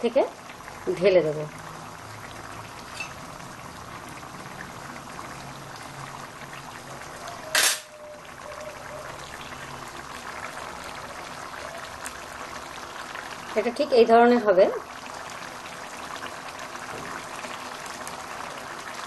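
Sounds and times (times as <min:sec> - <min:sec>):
curry bubbling in a pot: 0:00.0 - 0:19.0.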